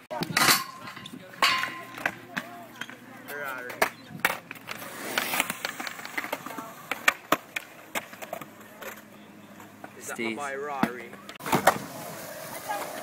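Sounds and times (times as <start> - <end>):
skateboard wheels rolling on concrete: 0.0 - 13.0
skateboards clacking on concrete: 0.0 - 13.0.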